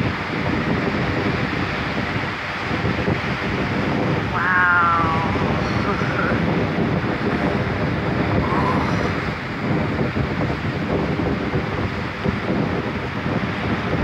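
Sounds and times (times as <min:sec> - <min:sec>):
surf breaking on rocks: 0:00.0 - 0:14.0
wind buffeting microphone: 0:00.0 - 0:14.0.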